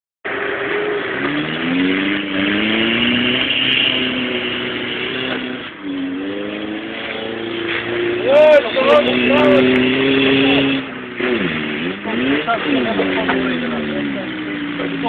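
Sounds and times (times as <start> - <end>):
engine revving: 0.3 - 15.0.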